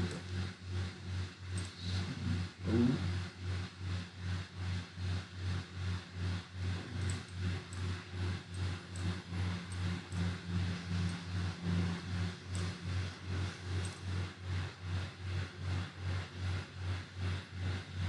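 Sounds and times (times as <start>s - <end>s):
throbbing machine hum: 0.0s - 18.0s.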